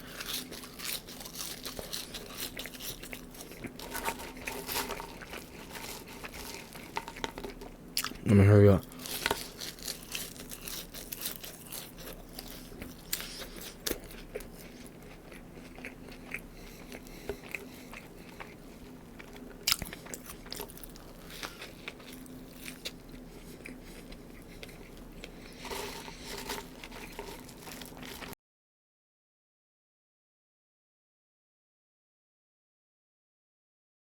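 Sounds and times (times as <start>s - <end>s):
chewing and crunching food: 0.0s - 28.4s.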